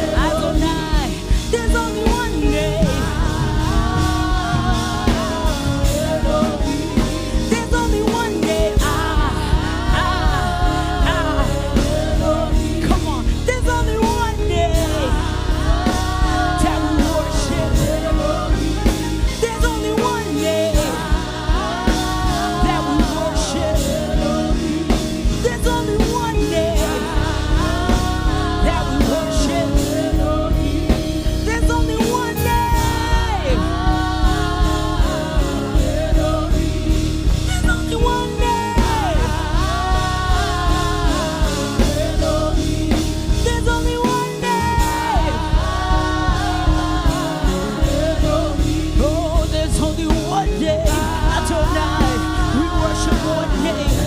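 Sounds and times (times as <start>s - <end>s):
person singing: 0.0s - 36.8s, 37.5s - 54.0s
bass: 0.0s - 54.0s
drum hits: 0.0s - 54.0s.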